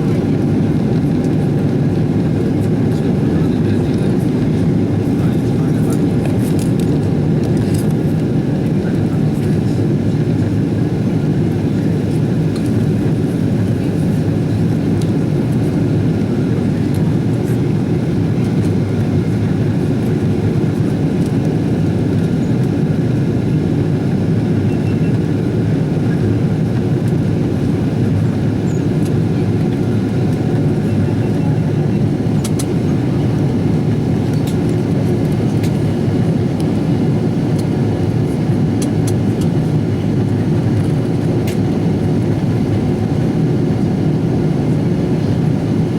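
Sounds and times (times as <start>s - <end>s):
jet engine and airflow roar: 0.0s - 45.9s.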